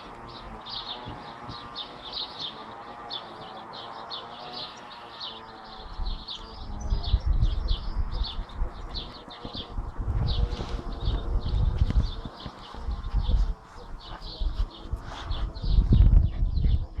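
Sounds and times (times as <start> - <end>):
small bird chirping: 0.0 - 17.0
steady low hum: 0.0 - 17.0.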